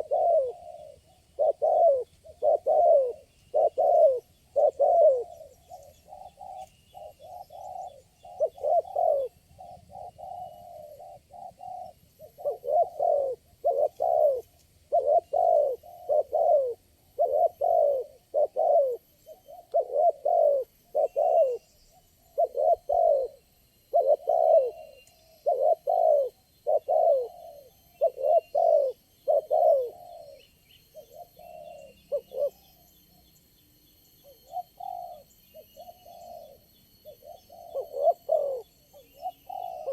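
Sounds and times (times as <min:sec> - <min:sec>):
doves cooing: 0:00.0 - 0:33.4, 0:34.2 - 0:39.9
faint high bird chirps: 0:00.0 - 0:39.9.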